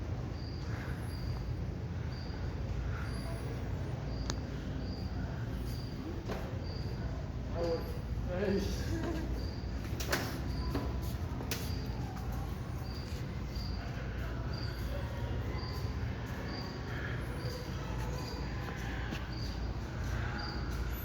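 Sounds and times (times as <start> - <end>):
low hum of large hall: 0.0 - 21.0.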